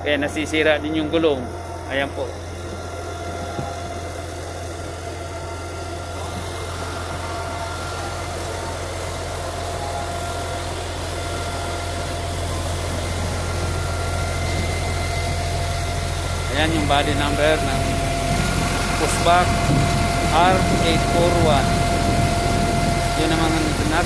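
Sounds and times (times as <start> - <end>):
vehicle engine idling with whine: 0.0 - 24.0.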